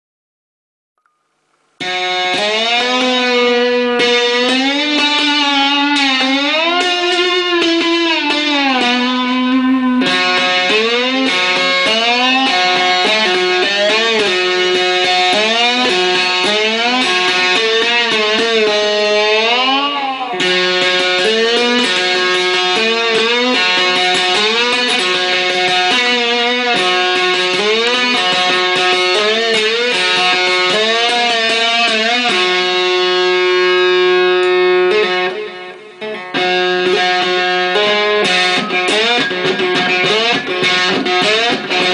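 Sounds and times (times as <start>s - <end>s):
plucked electric strings: 1.8s - 41.9s.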